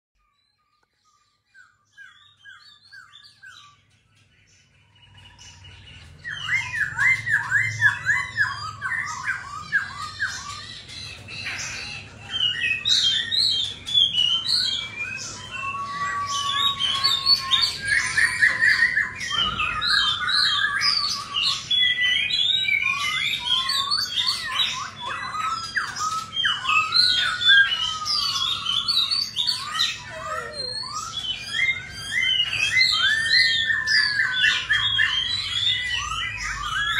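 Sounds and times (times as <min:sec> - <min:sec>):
bird singing varied song: 0:00.2 - 0:36.9.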